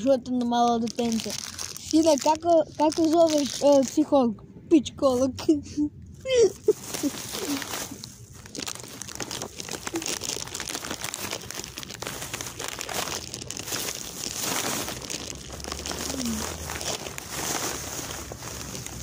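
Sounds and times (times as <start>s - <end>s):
crinkling and rustling: 0.0s - 4.3s, 6.3s - 19.0s.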